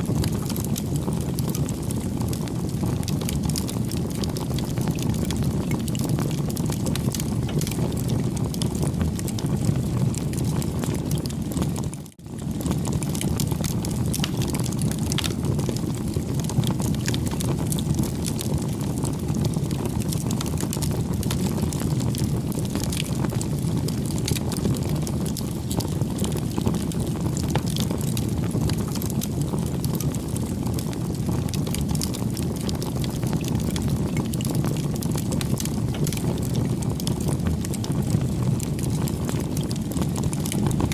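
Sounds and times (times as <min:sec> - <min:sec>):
campfire burning: 0:00.0 - 0:40.9
fire crackling and popping: 0:00.0 - 0:40.9.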